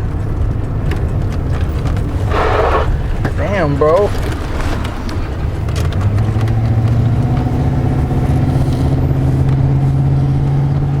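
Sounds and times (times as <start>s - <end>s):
vehicle engine hum rising: 0.0s - 11.0s.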